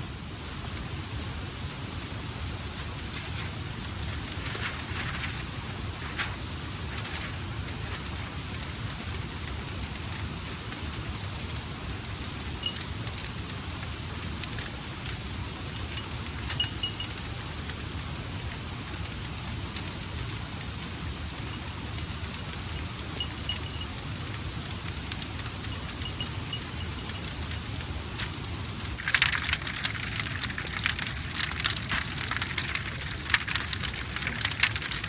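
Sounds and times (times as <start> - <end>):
heavy rain: 0.0 - 35.0
raindrops ticking: 2.6 - 35.0.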